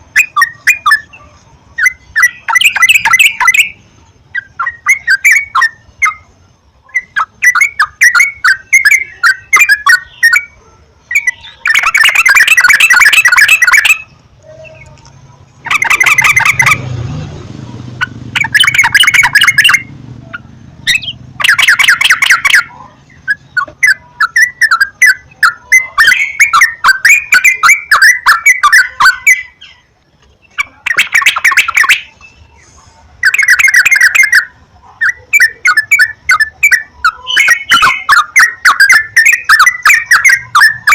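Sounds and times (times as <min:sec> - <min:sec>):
birds rapid chirping: 0:00.0 - 0:40.9.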